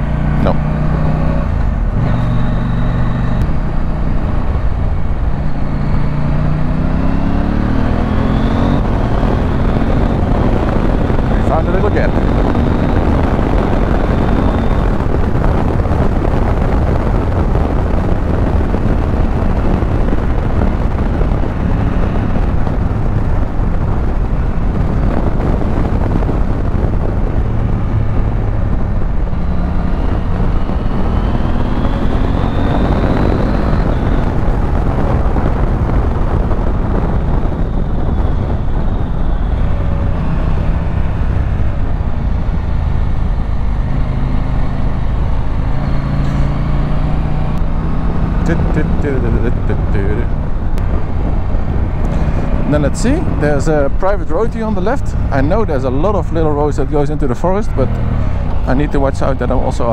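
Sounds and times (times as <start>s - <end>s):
motorcycle engine accelerating: 0.0s - 59.9s
wind rush: 0.0s - 59.9s.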